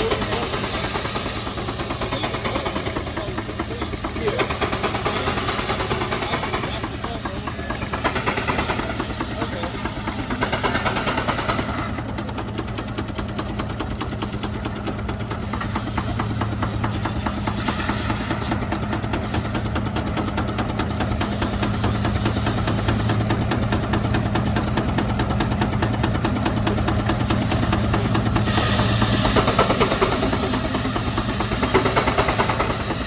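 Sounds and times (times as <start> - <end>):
engine running with knocking beat: 0.0 - 33.0.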